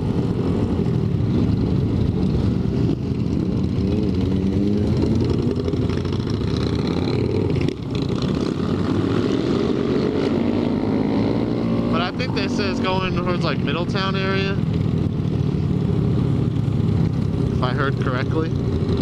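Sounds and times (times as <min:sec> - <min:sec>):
motorcycle engine accelerating: 0:00.0 - 0:19.0
other motorcycle engines: 0:00.0 - 0:19.0.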